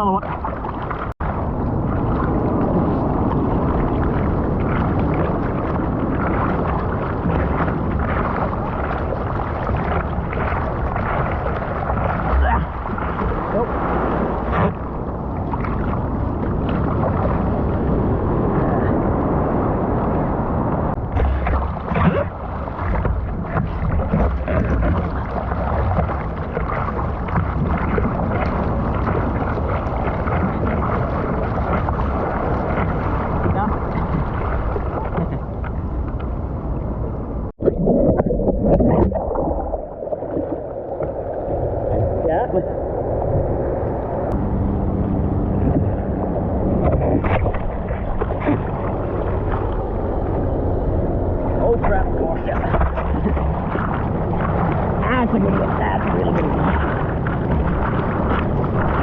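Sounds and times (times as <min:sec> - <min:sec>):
ocean water rushing and splashing: 0:00.0 - 0:59.0
wind buffeting microphone: 0:00.0 - 0:59.0.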